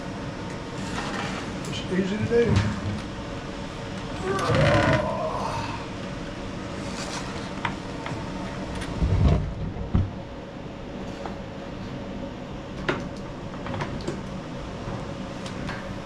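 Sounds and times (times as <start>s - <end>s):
fan humming: 0.0s - 16.0s.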